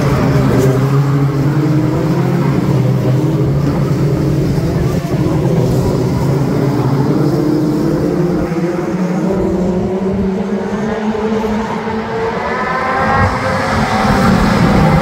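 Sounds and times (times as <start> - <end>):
racing car engines droning: 0.0 - 15.0.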